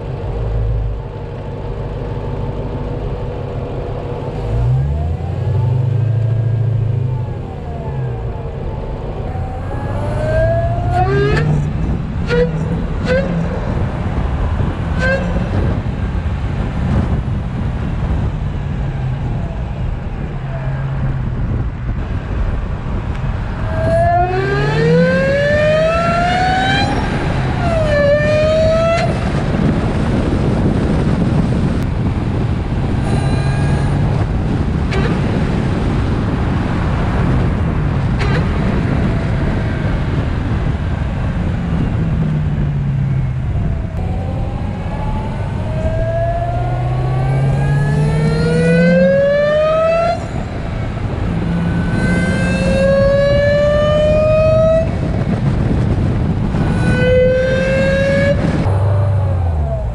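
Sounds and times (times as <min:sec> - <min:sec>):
car engine accelerating: 0:00.0 - 0:59.9
supercharger whine: 0:00.0 - 0:59.9.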